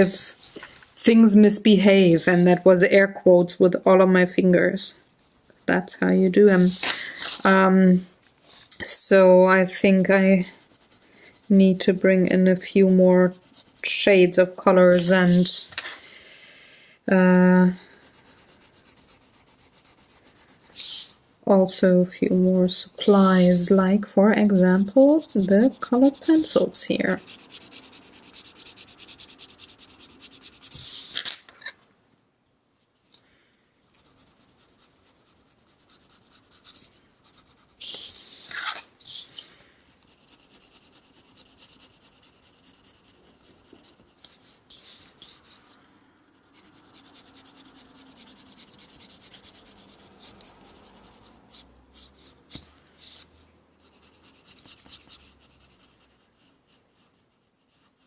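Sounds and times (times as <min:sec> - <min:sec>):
pencil scratching on paper: 0:01.8 - 0:02.6, 0:03.5 - 0:07.7, 0:09.5 - 0:15.6, 0:17.2 - 0:31.2, 0:33.8 - 0:58.0.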